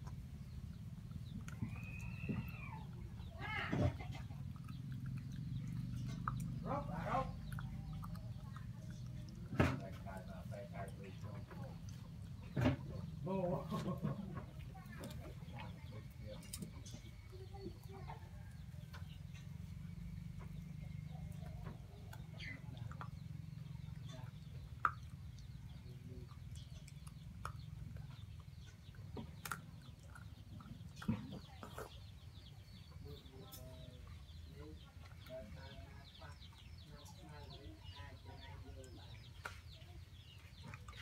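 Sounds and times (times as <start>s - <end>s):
low steady rumble: 0.0s - 41.0s.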